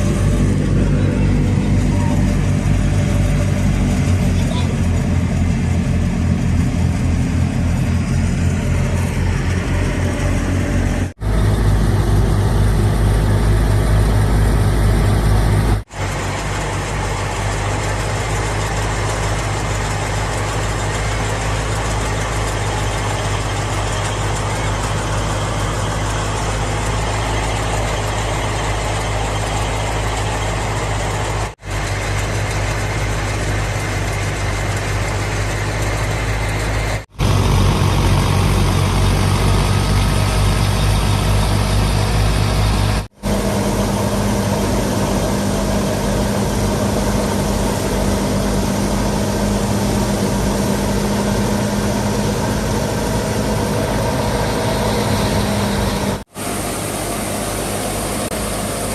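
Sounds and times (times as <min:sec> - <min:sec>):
thresher mechanical din: 0:00.0 - 0:58.9
tractor diesel engine running: 0:00.0 - 0:58.9.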